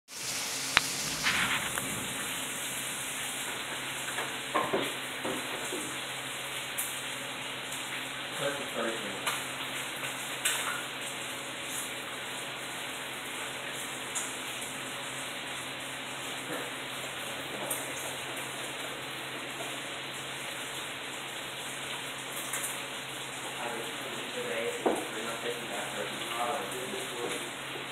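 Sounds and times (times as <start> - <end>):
heavy rain hiss: 0.1 - 27.9.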